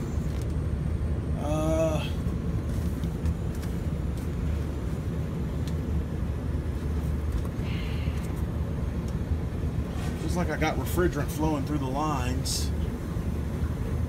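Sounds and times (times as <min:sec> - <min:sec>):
furnace blower running: 0:00.0 - 0:14.0.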